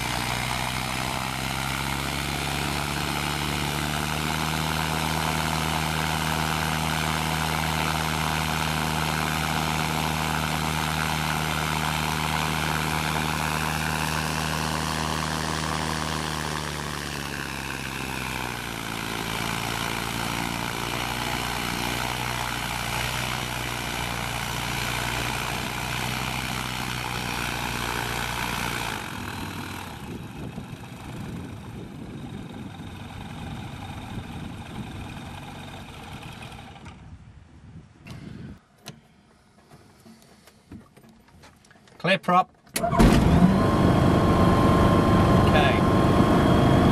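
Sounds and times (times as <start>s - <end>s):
aircraft engine and propeller: 0.0s - 37.2s, 42.8s - 46.9s.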